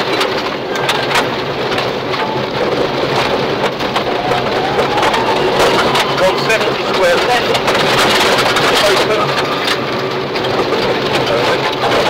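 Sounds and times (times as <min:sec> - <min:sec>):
rally car engine under load: 0:00.0 - 0:12.0.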